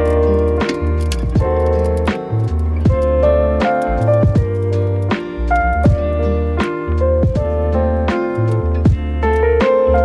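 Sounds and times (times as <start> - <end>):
keyboard notes: 0.0 - 10.0
sustained bass line: 0.0 - 10.0.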